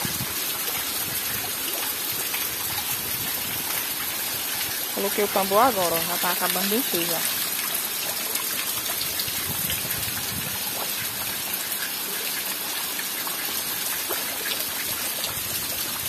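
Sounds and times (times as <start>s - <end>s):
heavy rain: 0.0s - 16.0s
water gushing into a drum: 0.0s - 16.0s.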